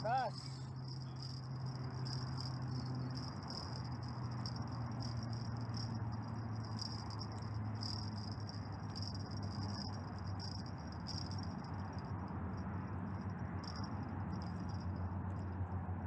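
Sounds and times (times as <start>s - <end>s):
crickets chirping: 0.0s - 15.7s
low steady hum: 0.0s - 16.0s.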